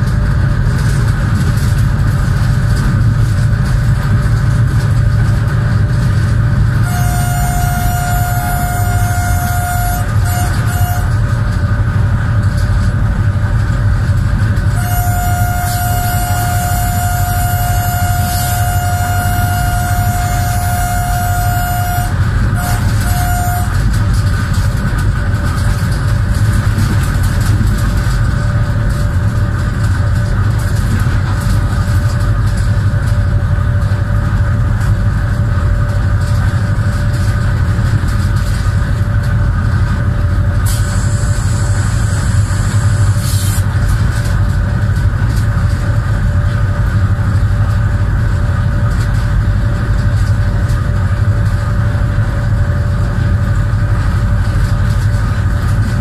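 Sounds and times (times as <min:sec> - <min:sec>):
locomotive rumble with whine: 0:00.0 - 0:56.0.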